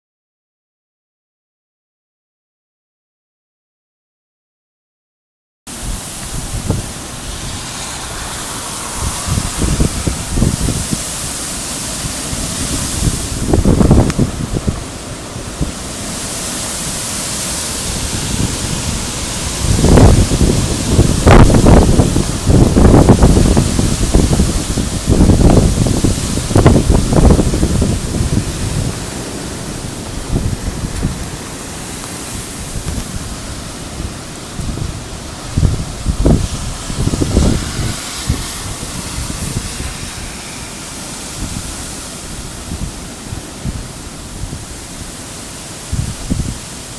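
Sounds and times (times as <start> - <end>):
strong wind and rain: 5.7 - 46.9
wind buffeting microphone: 5.7 - 46.9.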